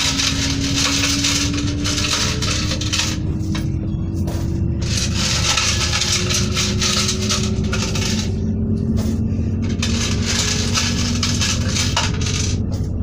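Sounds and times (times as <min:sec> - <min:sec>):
rising hum: 0:00.0 - 0:13.0
train engine rumble: 0:00.0 - 0:13.0.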